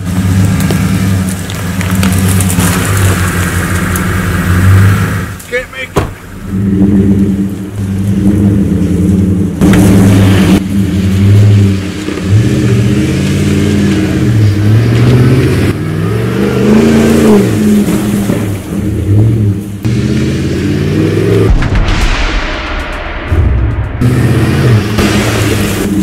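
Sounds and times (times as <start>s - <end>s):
truck engine revving: 0.0s - 21.8s, 23.3s - 26.0s.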